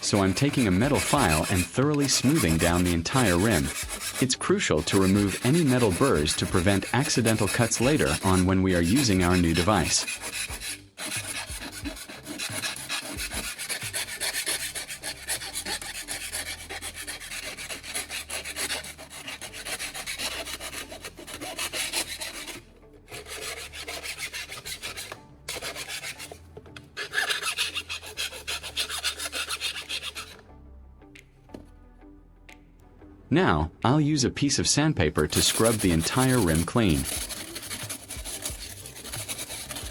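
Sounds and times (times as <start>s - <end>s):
metal file scraping metal: 0.0s - 30.4s, 35.2s - 39.9s.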